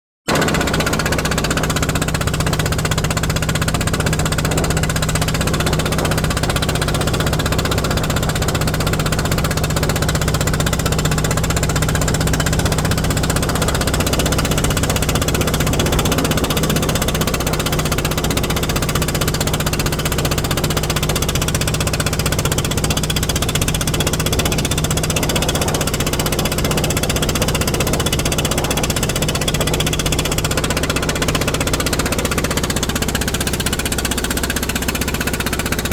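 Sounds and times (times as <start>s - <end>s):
boat engine humming and knocking: 0.3s - 35.9s.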